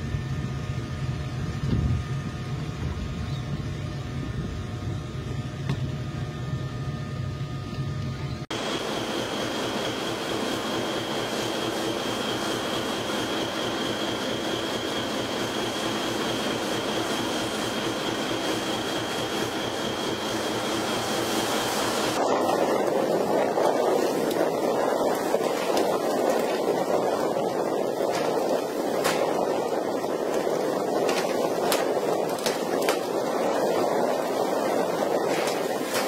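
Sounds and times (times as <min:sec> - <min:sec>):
boat engine drone: 0:00.0 - 0:36.0.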